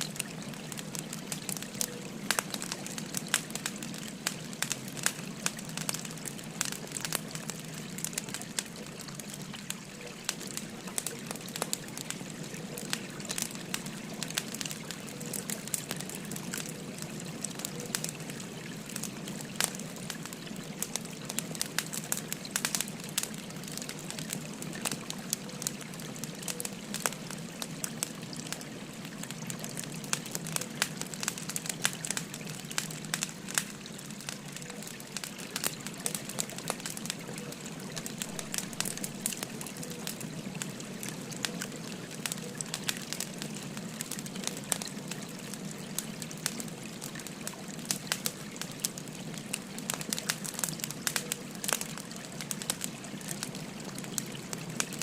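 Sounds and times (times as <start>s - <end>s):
firewood crackling and popping: 0.0s - 55.0s
flowing stream: 0.0s - 55.0s.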